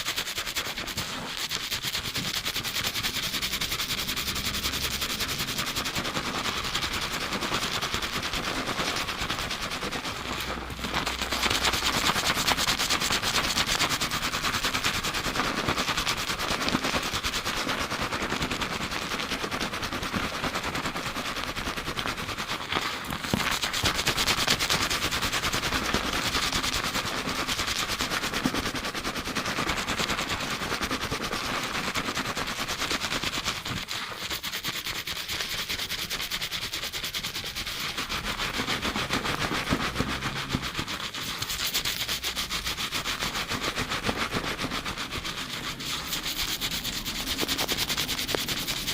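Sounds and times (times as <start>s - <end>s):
fingers scrubbing lathered scalp: 0.0s - 48.9s.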